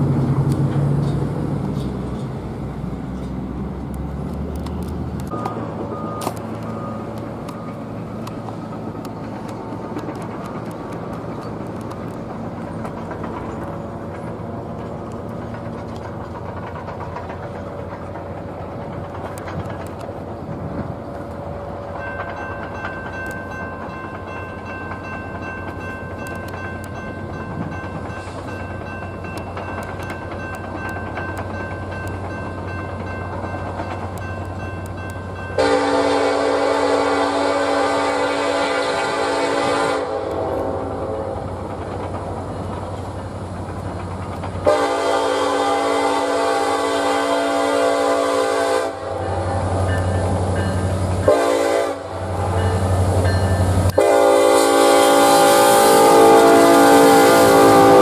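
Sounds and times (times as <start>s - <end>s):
freight train low rumble: 0.0s - 58.0s
train running noise: 0.0s - 58.0s.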